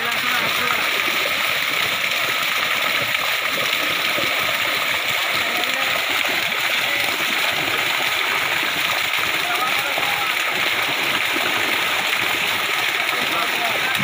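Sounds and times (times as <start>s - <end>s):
fish splashing in shallow water: 0.0s - 14.0s.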